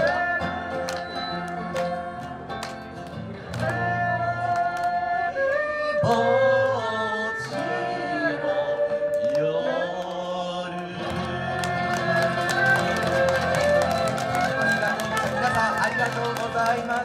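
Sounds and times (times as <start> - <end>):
acoustic guitars playing: 0.0 - 17.0.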